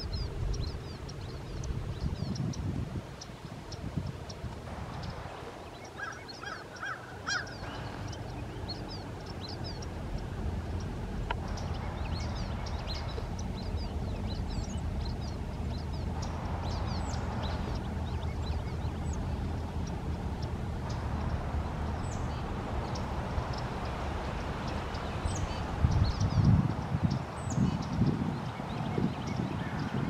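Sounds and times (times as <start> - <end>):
birds chirping: 0.0 - 30.0
low steady rumble: 0.0 - 30.0.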